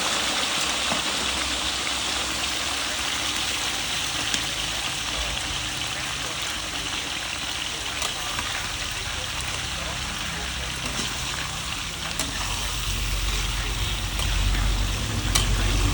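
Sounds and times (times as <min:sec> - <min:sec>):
meat sizzling in a pan: 0:00.0 - 0:15.9
small pops of frying: 0:00.8 - 0:15.9.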